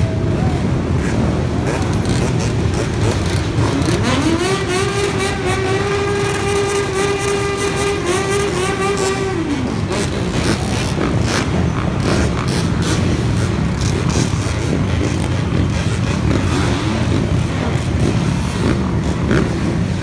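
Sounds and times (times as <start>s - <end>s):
dirt bike engines running: 0.0s - 20.0s.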